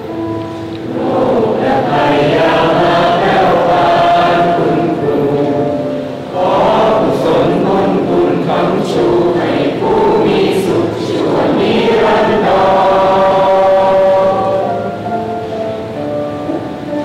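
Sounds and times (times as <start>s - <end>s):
group of voices singing: 0.8s - 15.0s.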